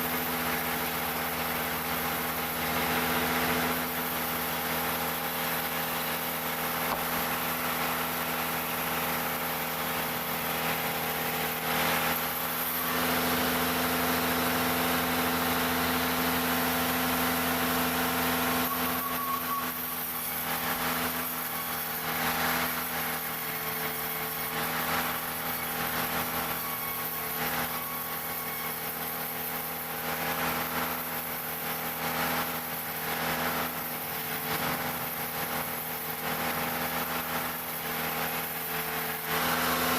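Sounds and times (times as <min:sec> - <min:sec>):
wood-cutting machine engine running: 0:00.0 - 0:39.9.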